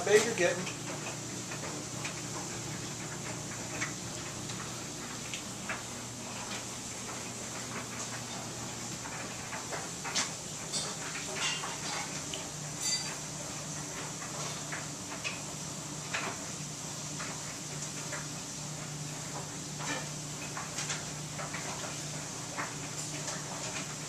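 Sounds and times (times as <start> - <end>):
clothes dryer humming: 0.0 - 24.0.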